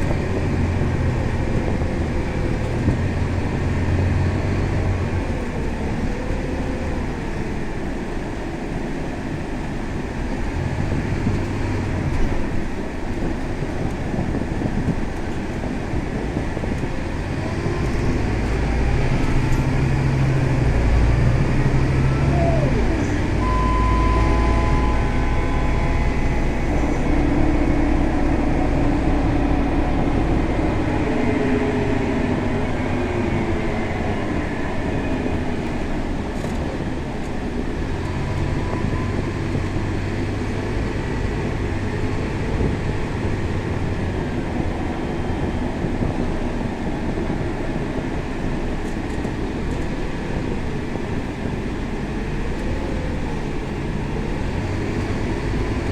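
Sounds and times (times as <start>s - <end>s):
bus engine rumble: 0.0s - 55.9s.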